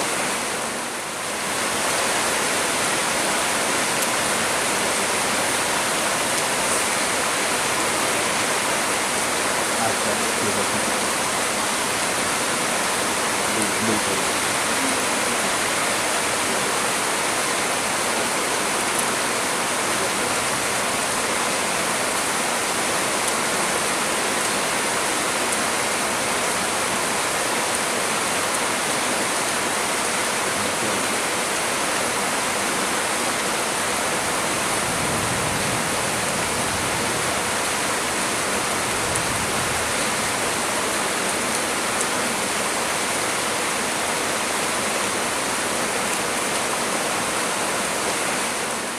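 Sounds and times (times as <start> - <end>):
heavy rain falling on trees: 0.0 - 48.9.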